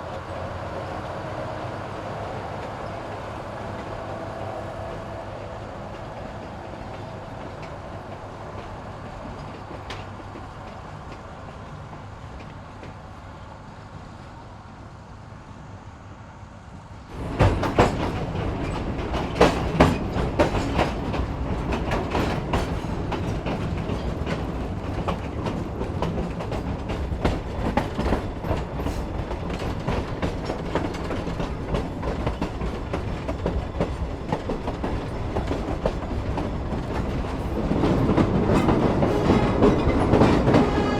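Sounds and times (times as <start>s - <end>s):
train rumble: 0.0s - 40.9s
train wheel clacks: 2.4s - 13.2s, 17.1s - 40.9s.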